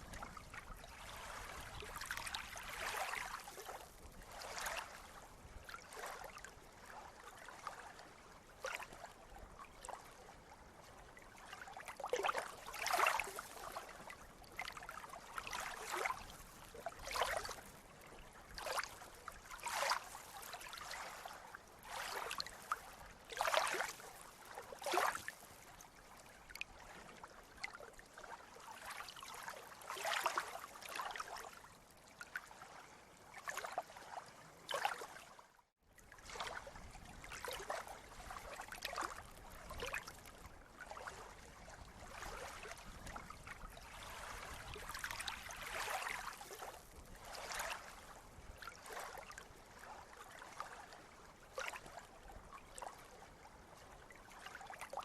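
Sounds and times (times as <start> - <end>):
small waves lapping and splashing: 0.0 - 55.0.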